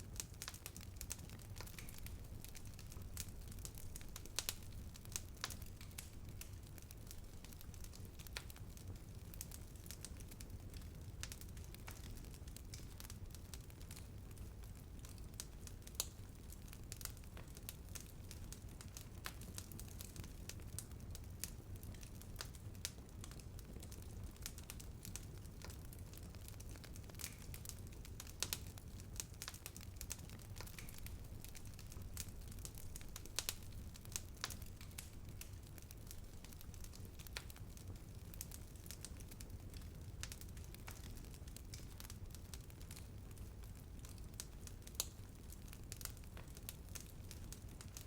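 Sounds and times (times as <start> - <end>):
bonfire crackling and popping: 0.0 - 48.0
low rumble of burning: 0.0 - 48.0.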